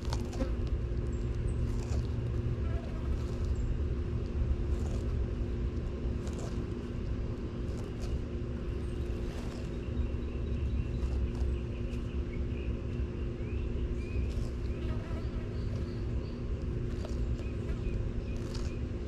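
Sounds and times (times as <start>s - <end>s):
constant hum: 0.0s - 19.0s
tortoise chewing crunches: 0.0s - 19.0s.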